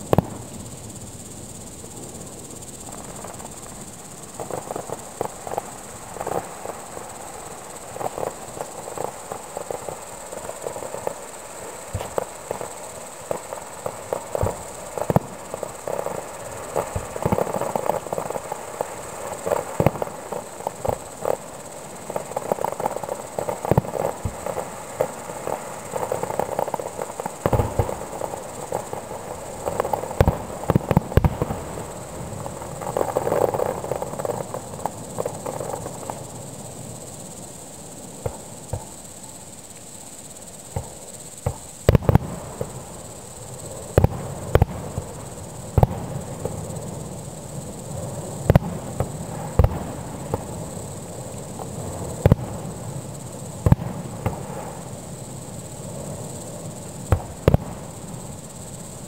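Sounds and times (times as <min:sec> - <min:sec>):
distant fireworks bangs: 0:00.0 - 0:01.0, 0:02.0 - 0:36.4, 0:40.7 - 0:50.8, 0:51.4 - 0:54.9, 0:55.9 - 0:58.3
crickets chirring: 0:00.0 - 0:59.0.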